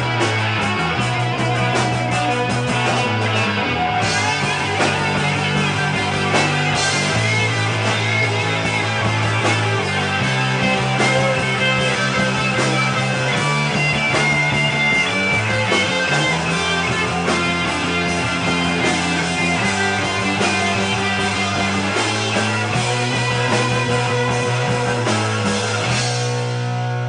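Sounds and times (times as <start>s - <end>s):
bass guitar holding long notes: 0.0s - 27.0s
electric guitars: 0.0s - 27.0s.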